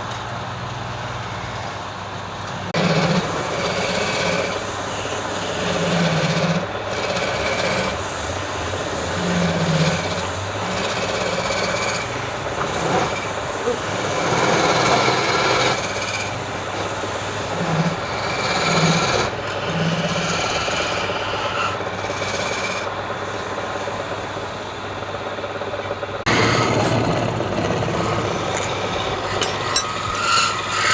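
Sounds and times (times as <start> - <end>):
lathe tool rasping spinning wood: 2.7 - 30.9.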